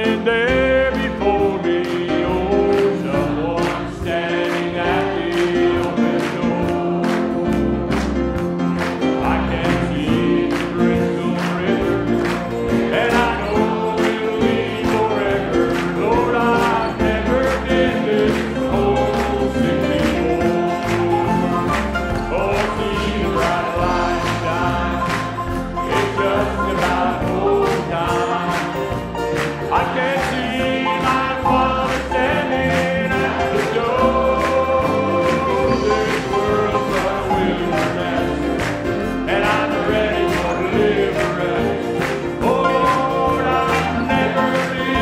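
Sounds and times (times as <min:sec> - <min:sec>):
instrumental accompaniment with beat: 0:00.0 - 0:45.0
men singing in harmony: 0:00.0 - 0:45.0.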